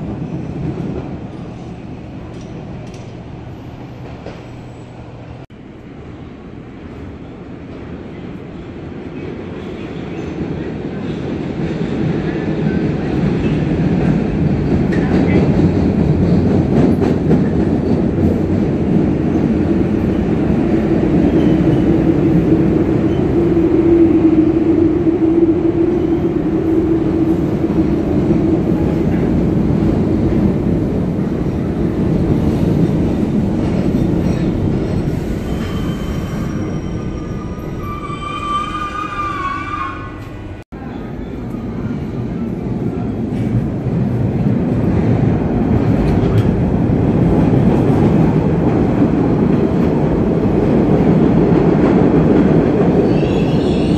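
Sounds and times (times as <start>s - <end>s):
subway train rumbling: 0.0s - 53.9s.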